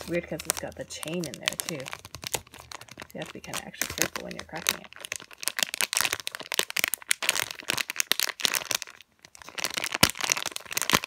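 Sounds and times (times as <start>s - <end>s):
plastic wrapper crinkling: 0.0s - 11.0s
squishy toy crackling: 0.0s - 11.0s.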